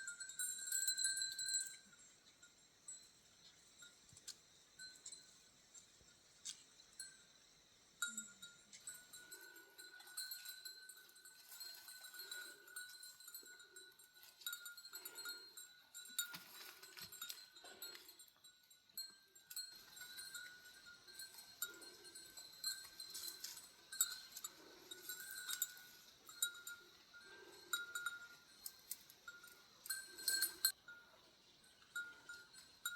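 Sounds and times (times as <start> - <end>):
goat bells clinking: 0.0 - 32.9.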